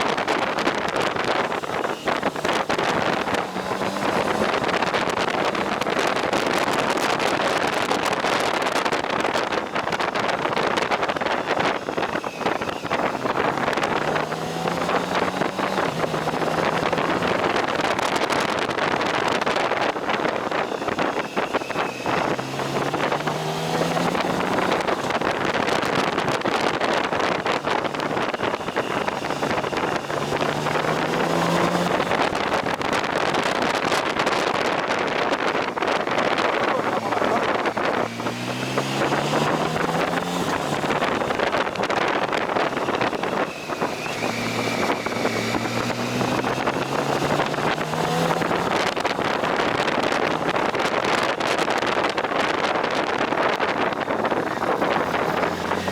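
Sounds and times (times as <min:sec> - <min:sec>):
motorcycle engine accelerating: 0:00.0 - 0:55.9
wind buffeting microphone: 0:00.0 - 0:55.9.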